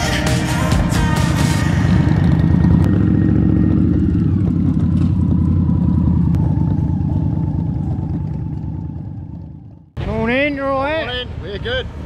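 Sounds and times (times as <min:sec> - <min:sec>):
motorcycle engine at low speed: 0:00.0 - 0:10.4.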